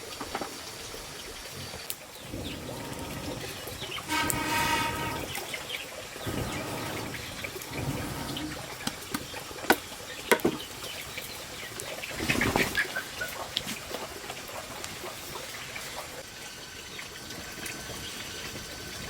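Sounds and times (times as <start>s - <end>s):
water trickling: 0.0s - 19.0s.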